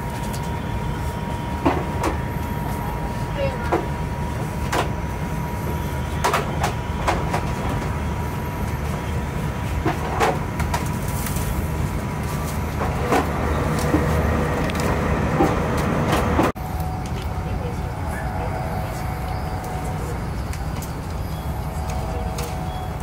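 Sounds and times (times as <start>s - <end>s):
train cabin rumble: 0.0s - 23.0s.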